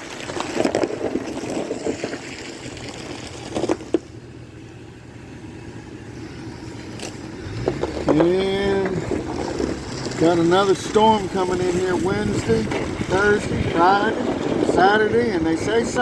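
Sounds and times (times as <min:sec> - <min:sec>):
crackling noise: 0:00.0 - 0:05.0, 0:05.9 - 0:16.0
vehicle engine running at low speed: 0:01.6 - 0:16.0.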